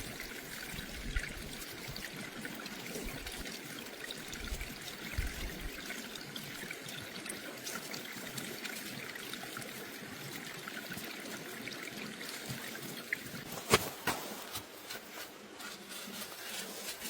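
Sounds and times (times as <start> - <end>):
water trickling: 0.0 - 13.7.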